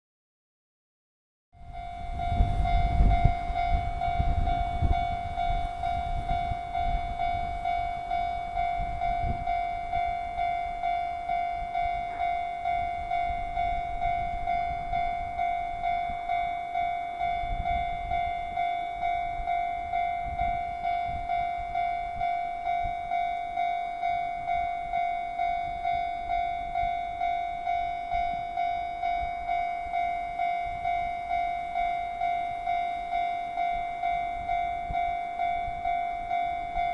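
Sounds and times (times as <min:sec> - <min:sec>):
level crossing warning bell ringing: 0:01.6 - 0:36.9.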